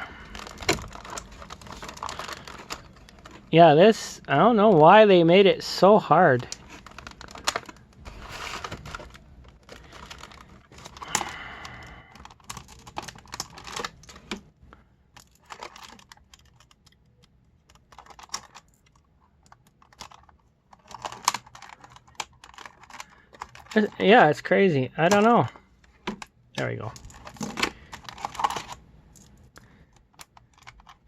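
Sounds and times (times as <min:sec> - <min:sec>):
plastic packaging crackling: 0:00.0 - 0:03.5, 0:06.4 - 0:14.5, 0:15.2 - 0:24.0, 0:25.1 - 0:31.0.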